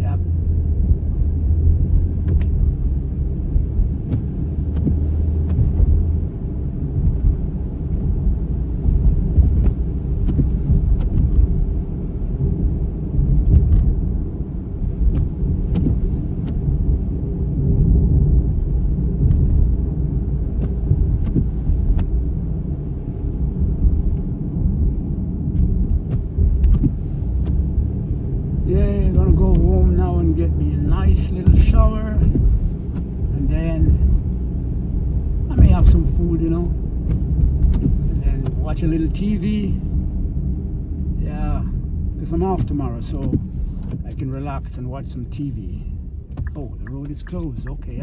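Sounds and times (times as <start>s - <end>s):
car driving on wet road: 0.0s - 48.0s.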